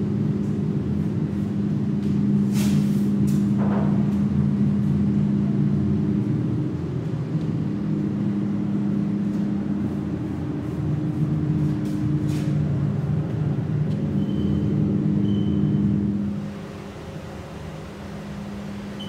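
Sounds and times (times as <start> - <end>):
low mechanical hum of machinery: 0.0 - 19.0.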